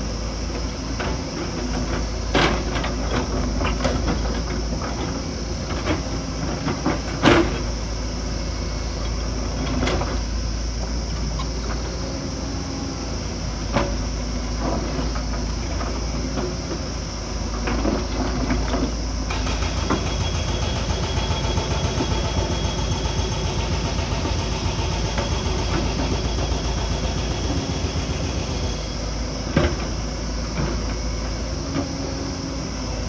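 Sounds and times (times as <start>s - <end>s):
diesel engine running: 0.0s - 33.0s
steady whine: 5.7s - 33.0s.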